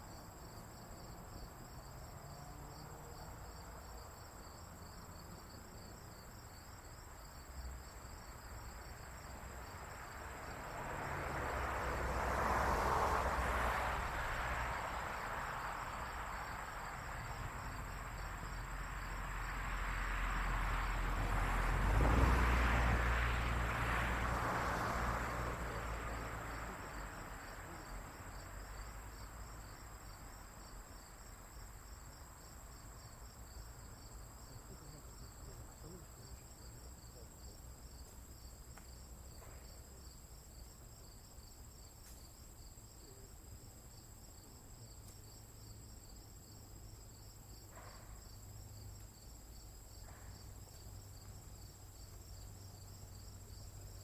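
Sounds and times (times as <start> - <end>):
insects chirping and trilling: 0.0 - 54.0.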